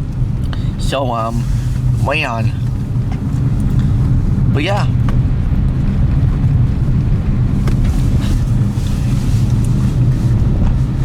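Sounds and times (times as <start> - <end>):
car engine drone: 0.0 - 11.0
tyre noise: 0.7 - 11.0.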